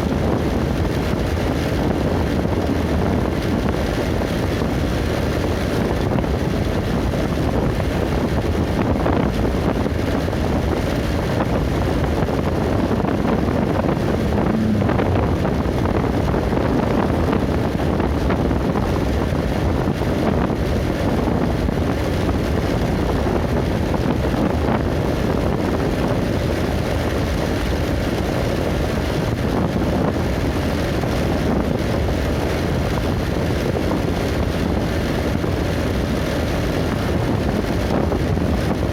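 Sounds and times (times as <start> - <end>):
vehicle rumble on road: 0.0 - 38.9
wind buffeting microphone: 0.0 - 38.9.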